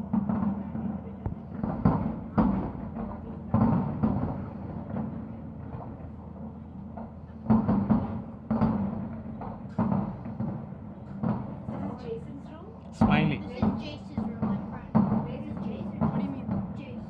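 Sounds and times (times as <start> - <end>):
distant fireworks booming: 0.0 - 12.0, 13.0 - 17.0.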